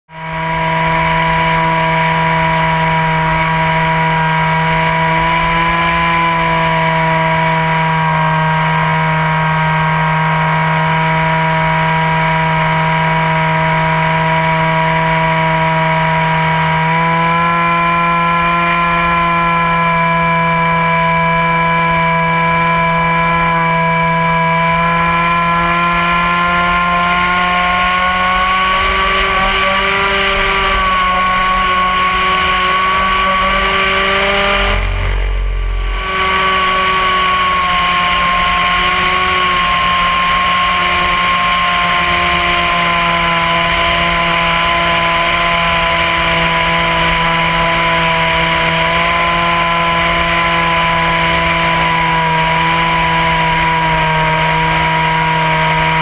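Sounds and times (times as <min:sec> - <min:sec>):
model plane motor humming: 0:00.0 - 0:56.0.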